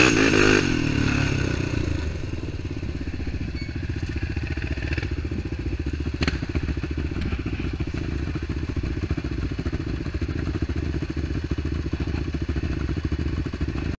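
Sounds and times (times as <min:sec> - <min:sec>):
atv engine idling: 0:00.0 - 0:14.0.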